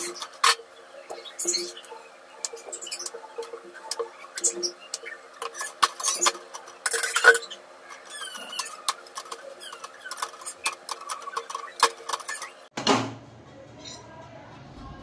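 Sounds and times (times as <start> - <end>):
utensils clicking and clinking: 0.0 - 12.7.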